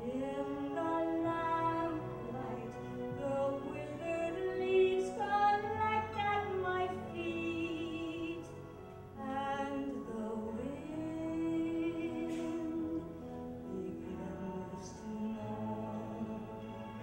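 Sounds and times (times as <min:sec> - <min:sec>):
woman singing a ballad: 0:00.0 - 0:08.6, 0:09.2 - 0:16.5
soft accompaniment: 0:00.0 - 0:17.0.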